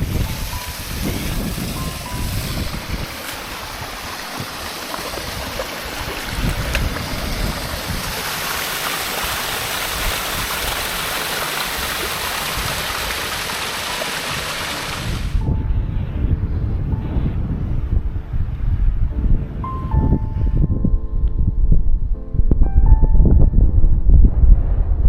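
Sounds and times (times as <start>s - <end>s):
blizzard wind hissing: 0.0s - 20.8s
wind buffeting microphone: 0.0s - 25.0s.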